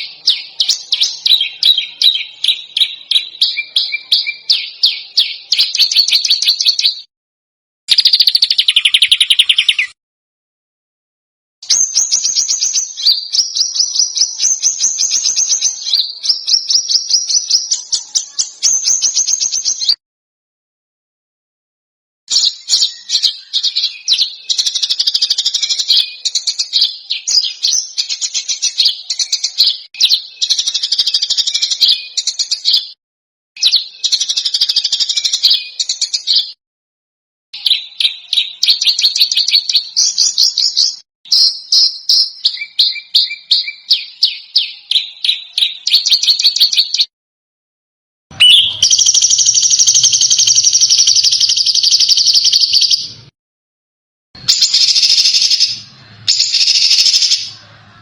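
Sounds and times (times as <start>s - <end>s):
songbirds chirping and trilling: 0.0s - 7.1s, 7.9s - 10.0s, 11.6s - 20.0s, 22.3s - 33.0s, 33.6s - 36.6s, 37.6s - 47.1s, 48.3s - 53.3s, 54.4s - 58.0s.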